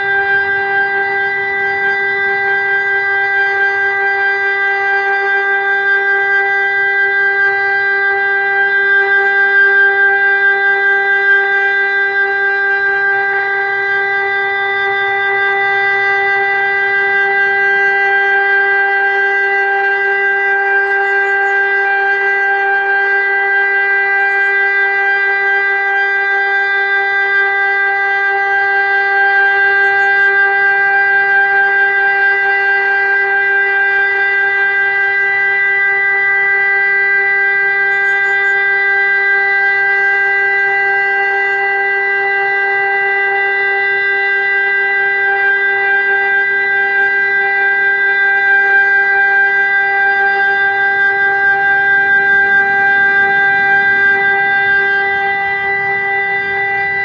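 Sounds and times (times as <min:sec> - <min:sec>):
electronic siren steady tone: 0:00.0 - 0:57.0.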